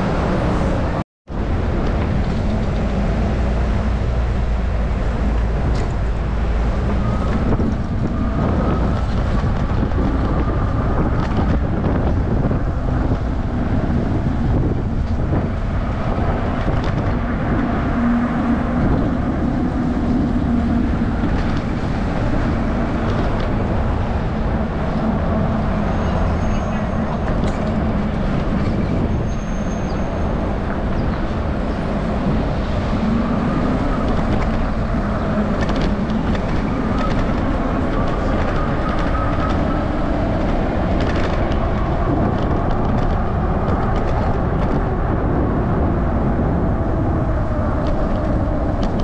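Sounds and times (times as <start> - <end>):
road traffic: 0.0 - 49.0
wind rumbling on microphone: 0.0 - 49.0.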